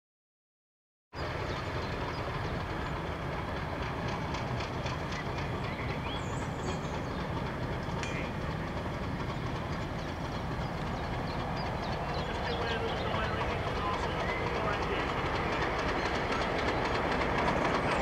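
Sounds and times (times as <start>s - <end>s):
train rumbling along track: 1.2s - 18.0s
wheels clicking over rail joints: 1.4s - 18.0s.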